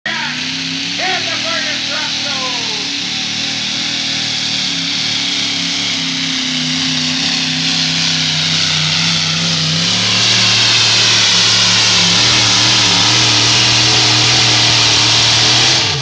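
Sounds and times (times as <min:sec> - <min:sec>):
engine at full throttle under load: 0:00.0 - 0:16.0.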